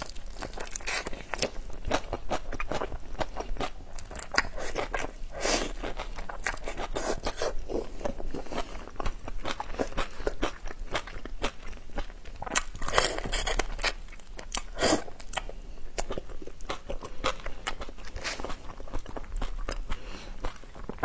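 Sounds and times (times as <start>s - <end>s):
shrimp shells crunching while chewing: 0.0s - 21.0s.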